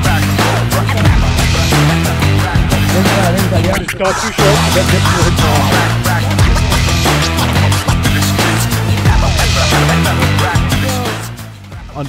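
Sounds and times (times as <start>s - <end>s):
music with heavy drum beat: 0.0s - 12.0s.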